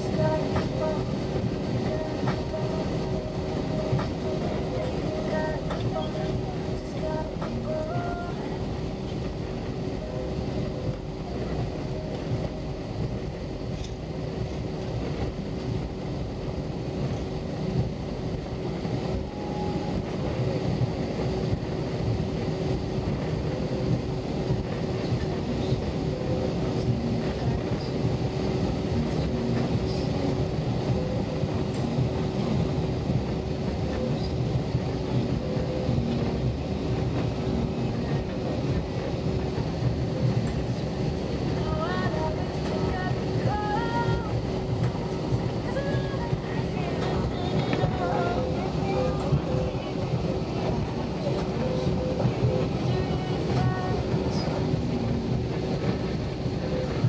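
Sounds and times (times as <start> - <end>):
jet engines rumbling at low power: 0.0 - 57.0.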